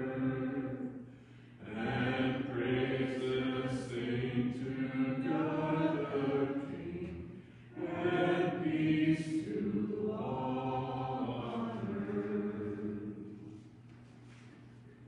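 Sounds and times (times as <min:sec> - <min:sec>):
voices singing a hymn: 0:00.0 - 0:13.7.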